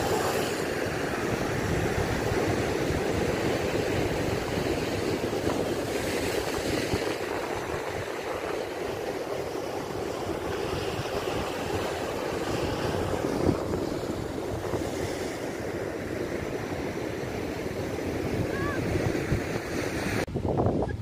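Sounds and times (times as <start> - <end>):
sea surf breaking on rocks: 0.0 - 20.8
wind buffeting microphone: 0.0 - 21.0.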